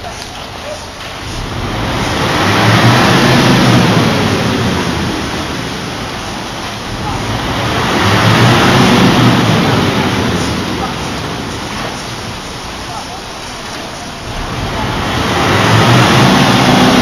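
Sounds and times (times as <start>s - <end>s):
workers' voices: 0.0s - 17.0s.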